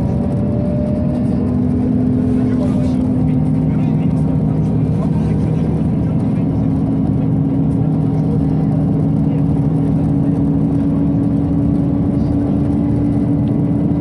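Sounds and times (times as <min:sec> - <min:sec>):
bus engine and fans droning: 0:00.0 - 0:14.0.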